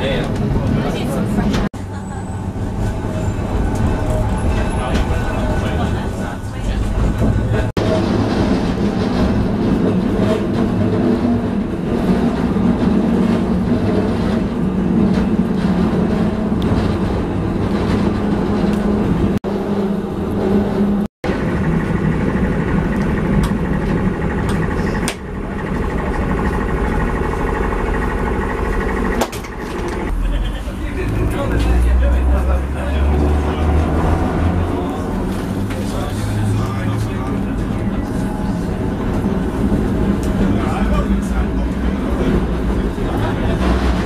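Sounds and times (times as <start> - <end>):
tram wheels rumbling on rail: 0.0 - 44.0.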